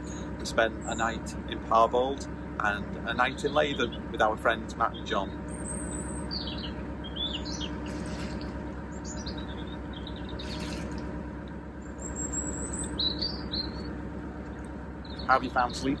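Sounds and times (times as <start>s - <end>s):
diesel engine drone: 0.0s - 16.0s
small birds chirping: 0.0s - 16.0s.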